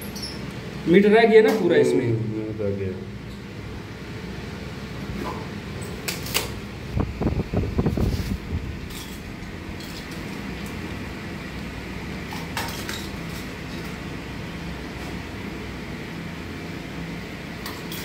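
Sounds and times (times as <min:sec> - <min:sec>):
fan-like hum: 0:00.0 - 0:18.0.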